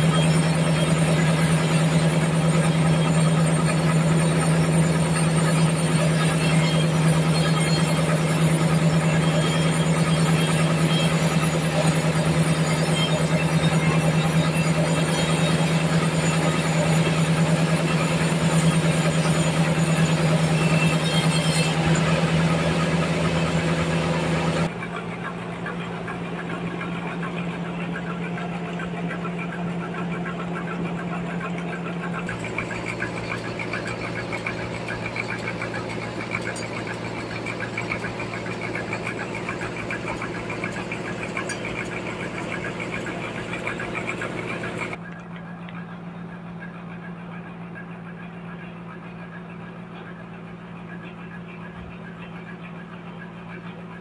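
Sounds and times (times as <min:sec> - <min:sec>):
band saw cutting log: 0:00.0 - 0:45.0
machine hum: 0:00.0 - 0:54.0.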